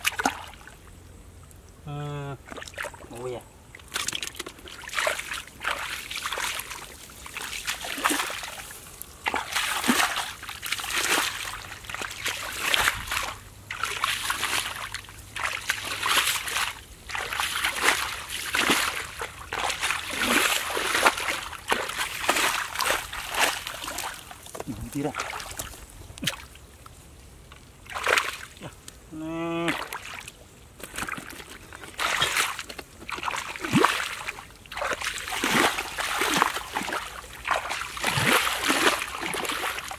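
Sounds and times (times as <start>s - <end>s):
feet wading through muddy water: 0.0s - 0.8s, 2.2s - 26.9s, 27.5s - 39.9s.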